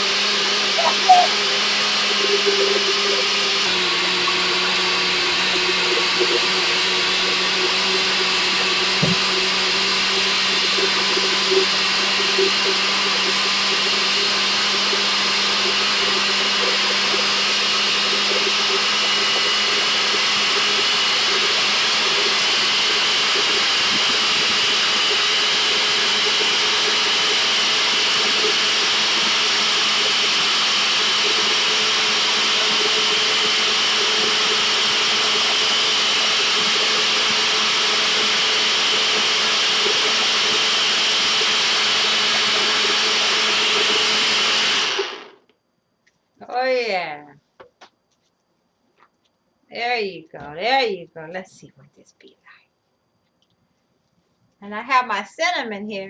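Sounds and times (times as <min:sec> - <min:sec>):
blender motor running: 0:00.0 - 0:45.5.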